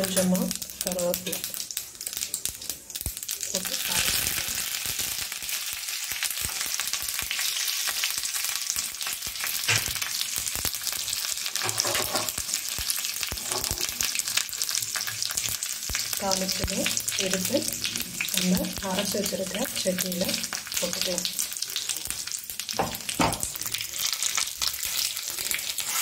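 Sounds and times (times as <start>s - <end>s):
leaves sizzling in hot oil: 0.0s - 26.0s.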